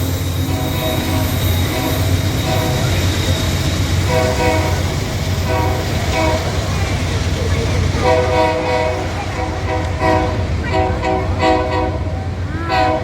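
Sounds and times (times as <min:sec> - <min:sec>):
diesel locomotive engine rumbling: 0:00.0 - 0:13.0.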